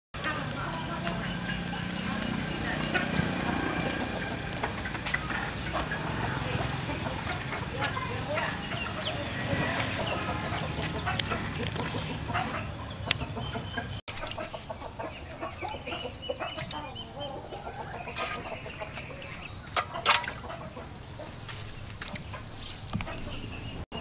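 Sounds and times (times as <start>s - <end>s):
chickens clucking: 0.2s - 24.0s.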